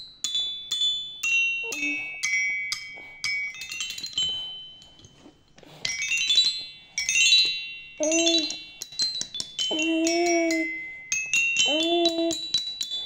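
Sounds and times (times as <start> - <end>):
toy xylophone notes: 0.2 - 5.0, 5.9 - 13.0.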